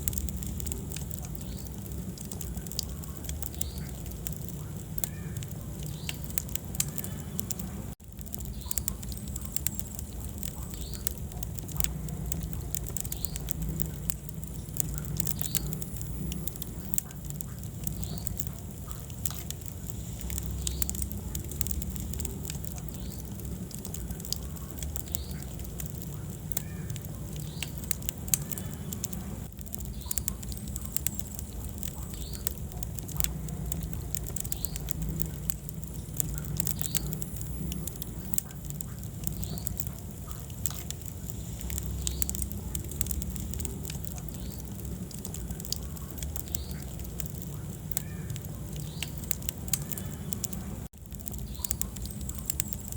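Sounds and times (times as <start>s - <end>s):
faint whistles from fire: 0.0s - 52.9s
low rumble of flames: 0.0s - 52.9s
wood fire crackling and popping: 0.0s - 52.9s.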